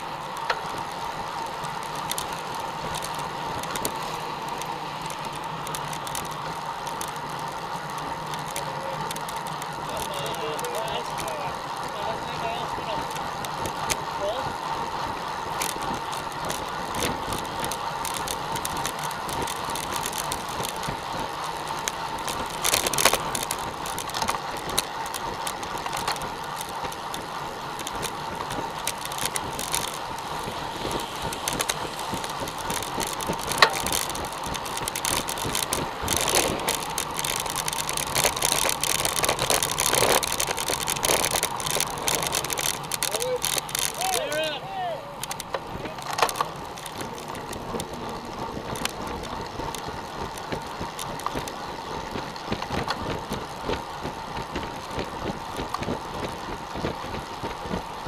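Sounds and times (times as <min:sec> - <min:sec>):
wind and tyre noise: 0:00.0 - 0:58.0
bike knocks and rattles: 0:07.8 - 0:44.4, 0:45.2 - 0:58.0.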